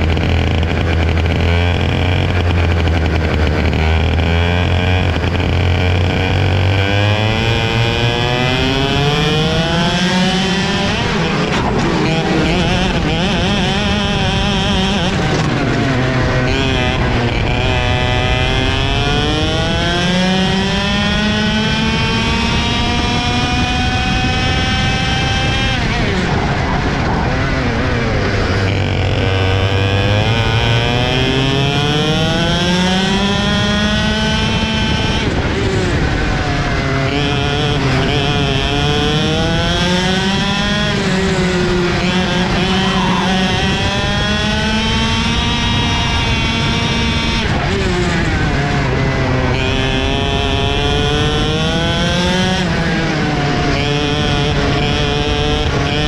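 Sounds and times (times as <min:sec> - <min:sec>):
two-stroke kart engine accelerating: 0:00.0 - 0:56.0.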